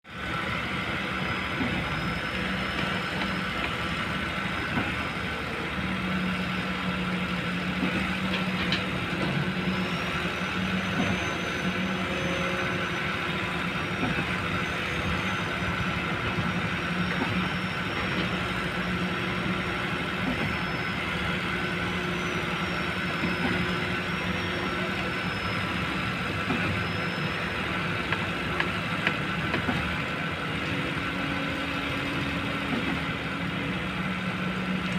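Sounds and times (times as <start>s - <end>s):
diesel excavator engine droning: 0.1s - 34.9s.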